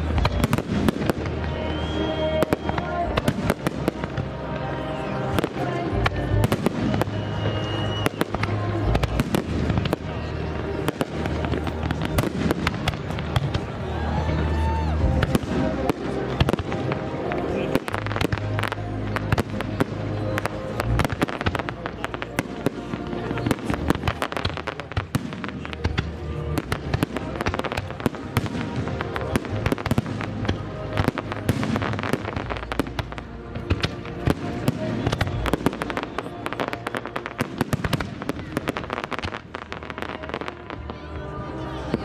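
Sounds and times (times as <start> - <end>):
fireworks bangs and crackles: 0.0 - 42.0
music playing: 0.0 - 42.0.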